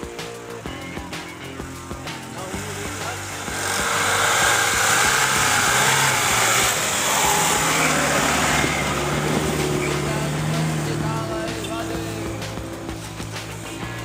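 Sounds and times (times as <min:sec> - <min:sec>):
vehicle engine running: 0:00.0 - 0:14.0
loud rushing noise: 0:01.8 - 0:14.0.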